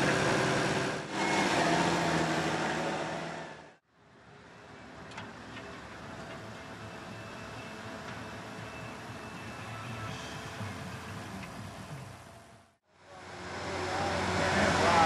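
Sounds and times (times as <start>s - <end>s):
tractor diesel engine under load: 0.0s - 3.8s, 5.2s - 15.0s
quieter steady engine: 0.0s - 15.0s.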